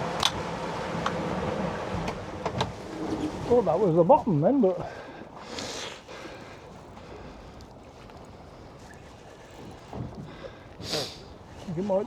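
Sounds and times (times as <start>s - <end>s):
water moving around boat: 0.0s - 12.0s.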